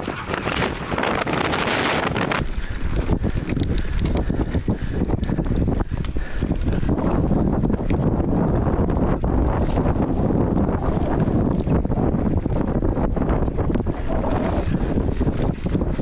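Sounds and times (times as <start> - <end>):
bike tyres rolling on gravel: 0.0 - 16.0
wind buffeting microphone: 0.0 - 16.0.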